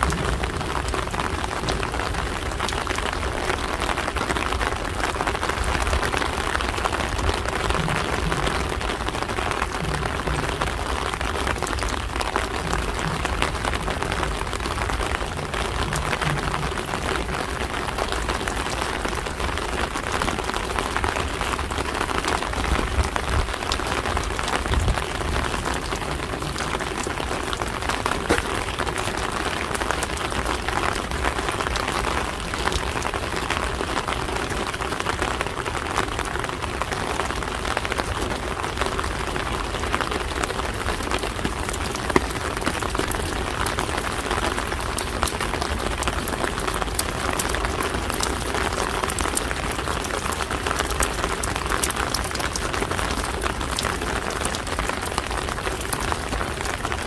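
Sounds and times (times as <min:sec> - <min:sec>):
rain falling: 0:00.0 - 0:57.0
raindrop ticks: 0:00.0 - 0:57.0.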